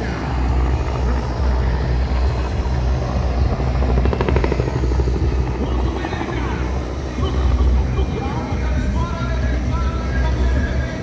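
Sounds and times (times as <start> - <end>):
helicopter flying past: 0.0 - 11.0
rotor blades beating: 0.0 - 11.0.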